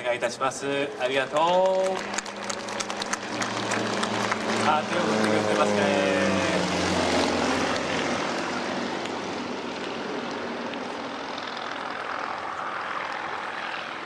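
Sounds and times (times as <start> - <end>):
propeller plane flying past: 0.0 - 14.0.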